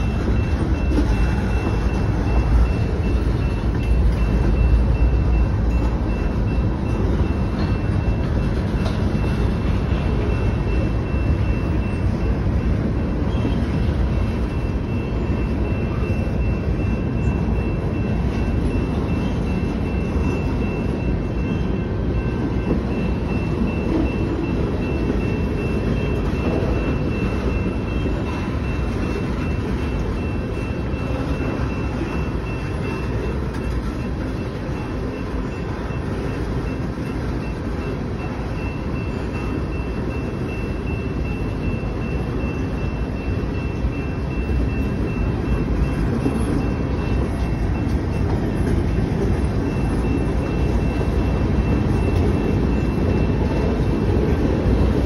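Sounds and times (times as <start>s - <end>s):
thin steady high tone: 0.0s - 13.4s, 14.1s - 55.0s
freight train rumbling over rails: 0.0s - 55.0s.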